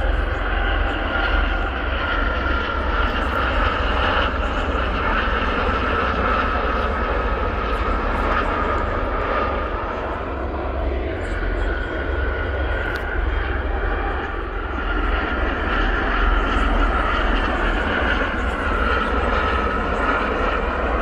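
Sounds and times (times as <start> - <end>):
helicopter turbine whine: 0.0 - 21.0
rotor drone: 0.0 - 21.0.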